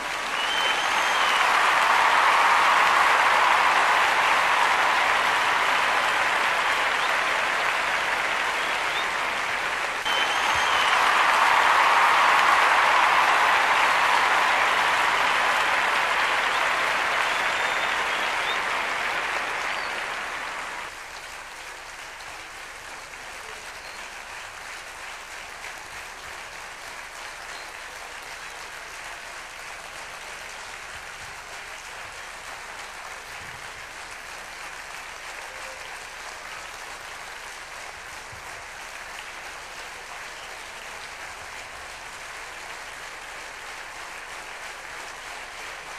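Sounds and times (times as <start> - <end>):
audience applauding: 0.0 - 45.9.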